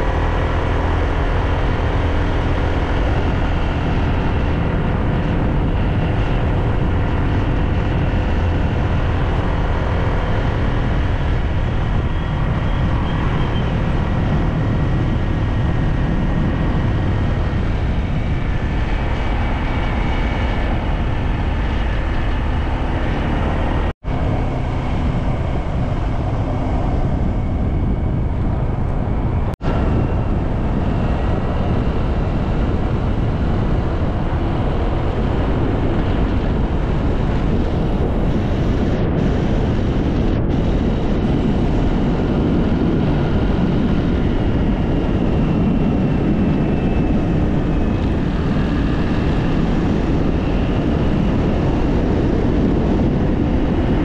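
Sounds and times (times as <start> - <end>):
vehicle engine running: 0.0 - 54.0
wind and road noise: 0.0 - 54.0.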